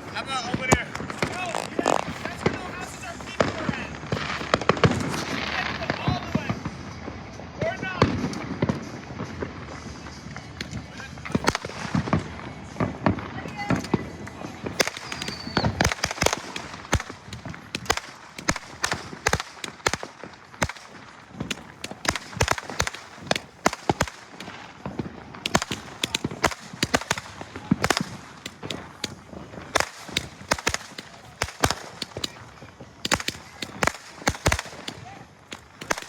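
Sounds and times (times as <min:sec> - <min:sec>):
loud firework booms: 0:00.0 - 0:06.8, 0:14.0 - 0:36.0
fireworks bangs and crackles: 0:00.0 - 0:36.0.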